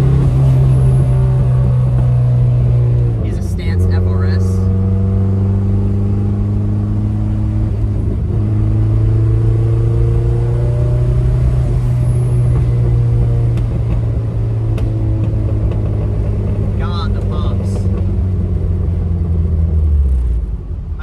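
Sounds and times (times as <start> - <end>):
car engine under load: 0.0 - 21.0.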